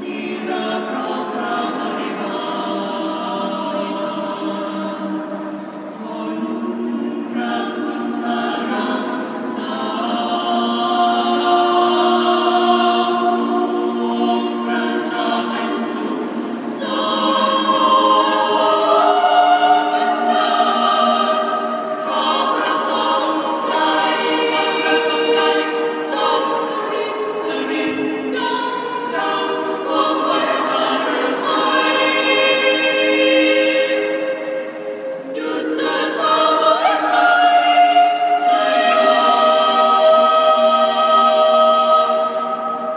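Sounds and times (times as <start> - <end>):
choir singing unaccompanied: 0.0 - 42.9.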